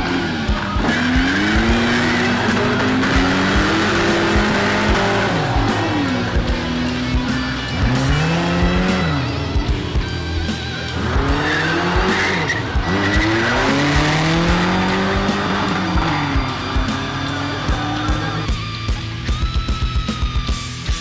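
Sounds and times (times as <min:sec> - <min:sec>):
background music with steady beat: 0:00.0 - 0:21.0
car engines revving: 0:00.0 - 0:21.0.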